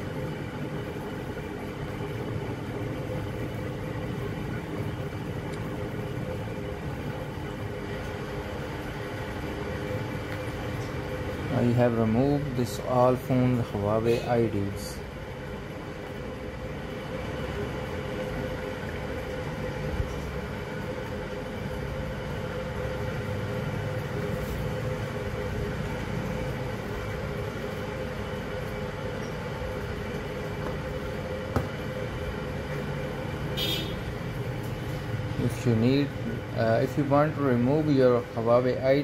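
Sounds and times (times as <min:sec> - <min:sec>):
mechanical hum with low rumble: 0:00.0 - 0:39.0.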